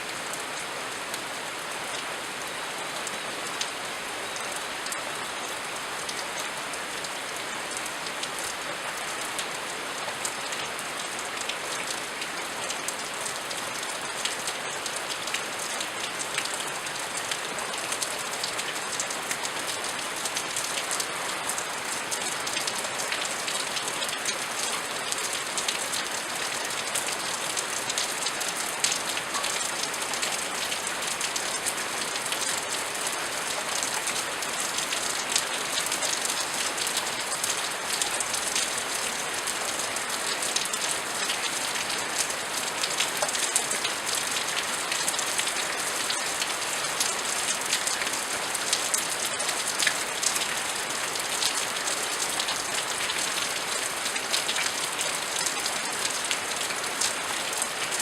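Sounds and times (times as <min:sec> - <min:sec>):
steady rain falling: 0:00.0 - 0:58.0
raindrops ticking on a surface: 0:09.2 - 0:58.0.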